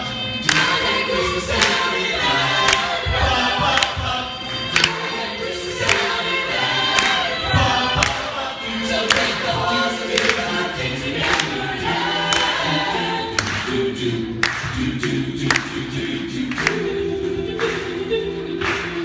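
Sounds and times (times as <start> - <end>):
choir singing unaccompanied: 0.0 - 19.0
sharp beat or clap: 0.4 - 5.2, 5.8 - 8.4, 9.0 - 12.6, 13.3 - 17.0, 17.6 - 19.0.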